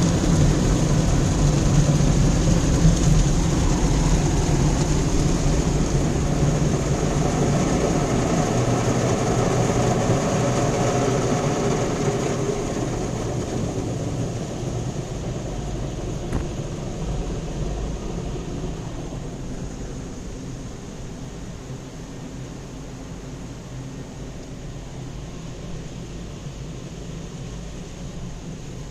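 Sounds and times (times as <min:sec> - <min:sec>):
car wash machinery running: 0:00.0 - 0:28.9.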